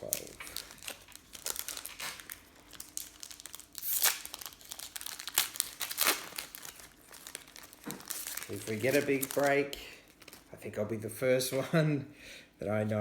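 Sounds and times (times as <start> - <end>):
foil wrappers crinkling: 0.0 - 10.6.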